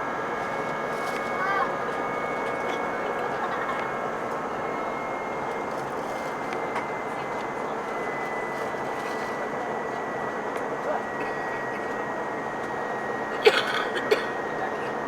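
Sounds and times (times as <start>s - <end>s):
faint high whine: 0.0s - 13.4s
aircraft engine and airflow rush: 0.0s - 15.0s.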